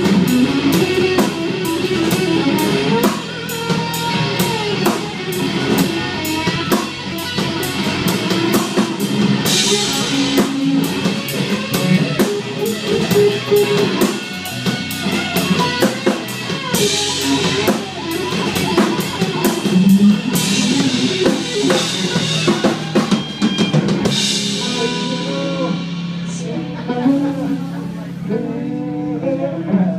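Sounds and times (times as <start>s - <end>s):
cymbals washing: 0.0s - 28.2s
drum kit beat: 0.0s - 28.4s
distorted electric guitar: 0.0s - 29.9s
electric bass: 0.0s - 29.9s.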